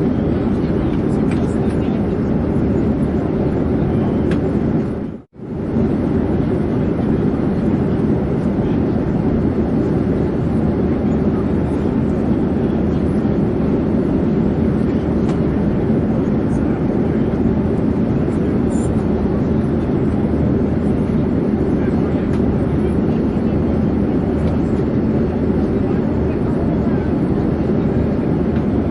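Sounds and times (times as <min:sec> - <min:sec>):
airplane engine rumble: 0:00.0 - 0:28.9.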